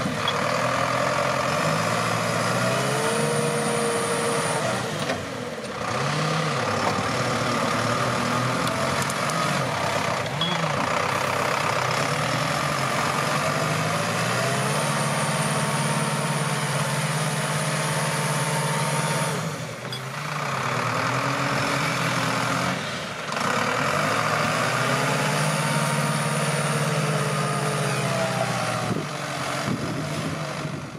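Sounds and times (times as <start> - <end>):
tractor diesel engine straining: 0.0 - 30.9.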